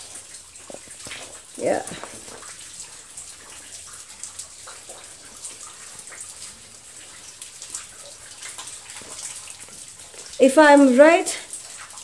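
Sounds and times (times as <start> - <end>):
water drops falling: 0.0 - 12.0.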